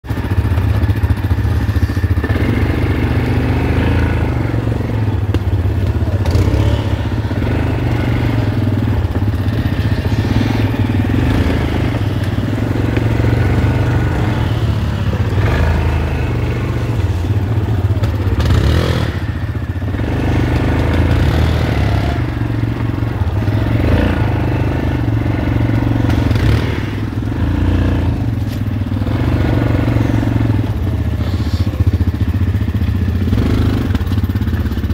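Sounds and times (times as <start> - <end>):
quad bike engine running: 0.0 - 34.9.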